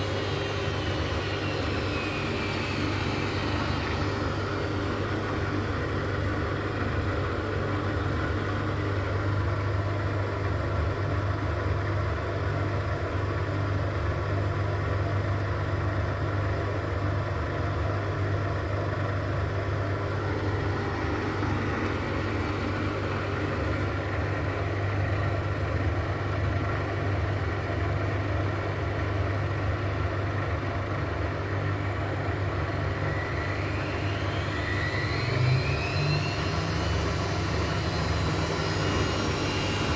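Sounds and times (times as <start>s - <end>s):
washing machine spinning: 0.0s - 17.3s, 17.9s - 39.9s.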